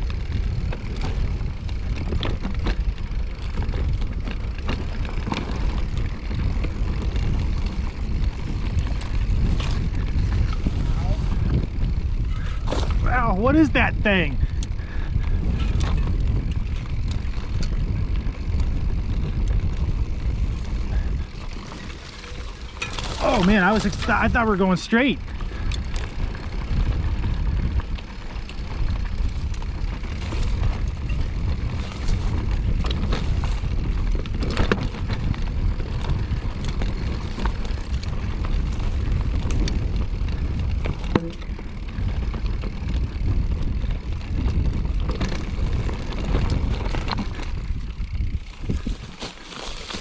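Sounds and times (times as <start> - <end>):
mountain bike rattling on rocks: 0.0 - 50.0
wind buffeting microphone: 0.0 - 50.0.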